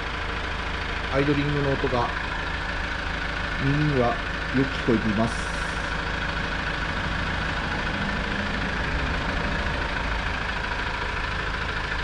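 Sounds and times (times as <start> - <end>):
diesel car engine idling: 0.0 - 12.0.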